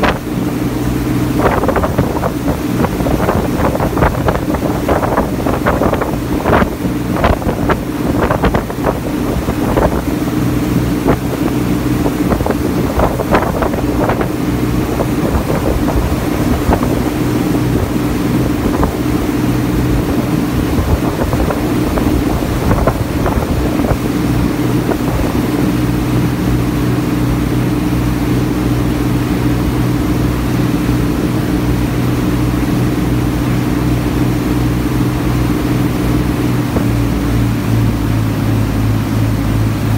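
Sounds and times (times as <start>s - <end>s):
wind buffeting microphone: 0.0s - 38.0s
ferry engine humming: 0.0s - 39.9s
water slapping against hull: 0.0s - 39.9s.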